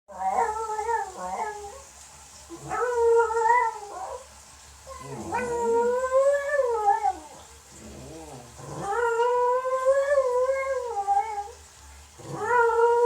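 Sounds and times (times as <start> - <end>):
dog howling: 0.1 - 1.9, 2.6 - 4.2, 4.9 - 11.6, 12.2 - 13.0.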